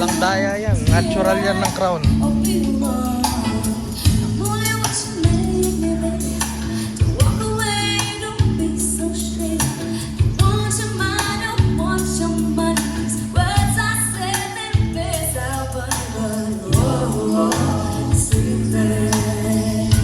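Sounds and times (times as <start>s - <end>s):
sung duet with band: 0.0s - 20.0s
sustained bass notes: 0.0s - 20.0s.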